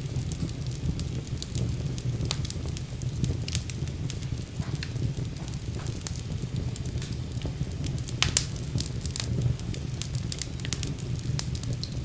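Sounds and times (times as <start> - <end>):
fire crackles and pops: 0.0 - 12.0
fire low rumble: 0.0 - 12.0.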